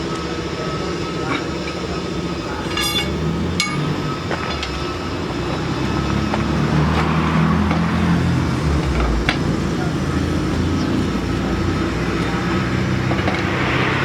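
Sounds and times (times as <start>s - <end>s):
heavy vehicle engine humming: 0.0s - 14.0s.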